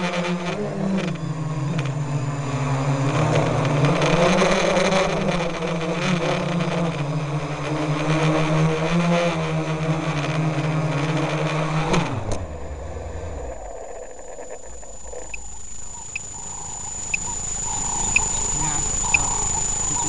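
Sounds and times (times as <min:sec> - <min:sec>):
motor running: 0:00.0 - 0:20.0.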